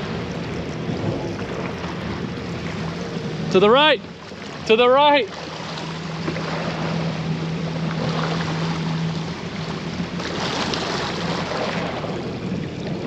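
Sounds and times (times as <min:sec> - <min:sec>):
jet ski engine humming: 0:00.0 - 0:13.0
water rushing and splashing: 0:00.0 - 0:13.0.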